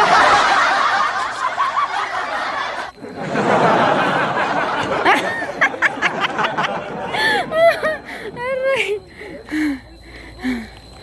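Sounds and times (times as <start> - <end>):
people laughing loudly: 0.0 - 9.7.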